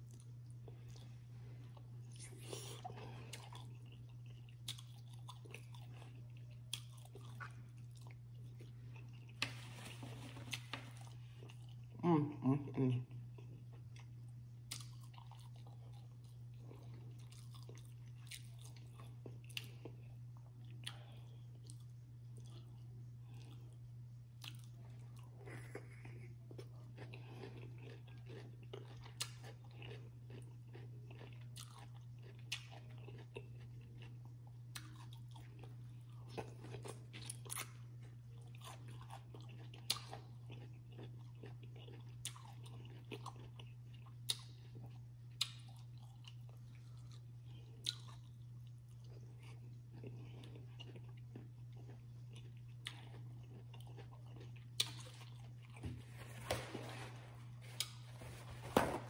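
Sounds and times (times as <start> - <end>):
person chewing and biting: 0.0 - 9.7, 13.3 - 23.8, 24.4 - 58.2
steady low hum: 0.0 - 59.0.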